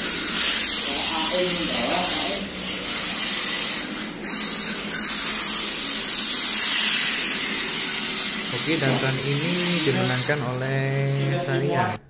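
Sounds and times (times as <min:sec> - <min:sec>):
small rc cars motors hissing: 0:00.0 - 0:10.8.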